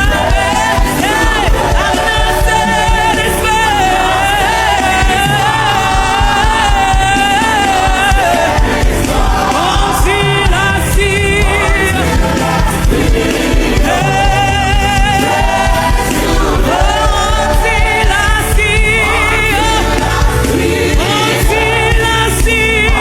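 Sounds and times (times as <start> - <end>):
live band playing: 0.0 - 23.0
singers holding long notes: 0.0 - 23.0.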